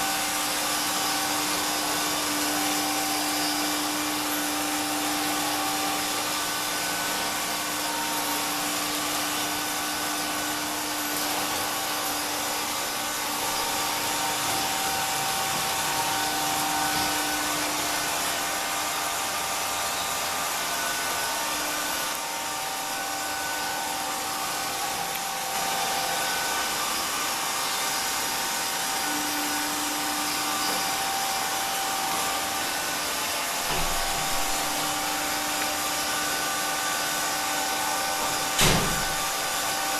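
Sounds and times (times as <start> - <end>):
robot vacuum cleaner running: 0.0 - 39.9.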